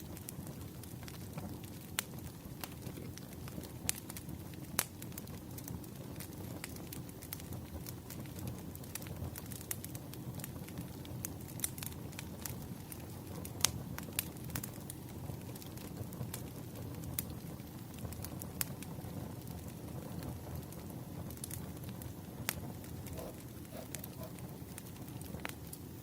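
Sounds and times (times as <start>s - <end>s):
burning logs crackling and popping: 0.0s - 26.0s
wood fire rumbling: 0.0s - 26.0s.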